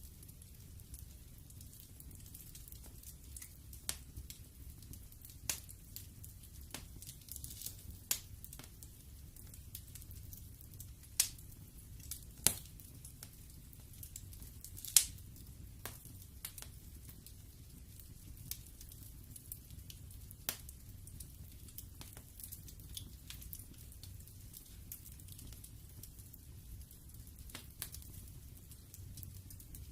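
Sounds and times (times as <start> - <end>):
fire crackling and popping: 0.0 - 29.9
low rumble of fire: 0.0 - 29.9.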